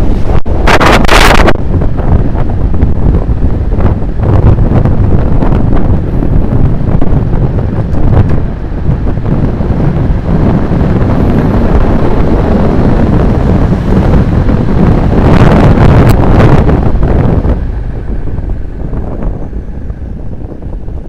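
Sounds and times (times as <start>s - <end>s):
high hissing rush: 0.0s - 21.0s
wind buffeting microphone: 0.0s - 21.0s.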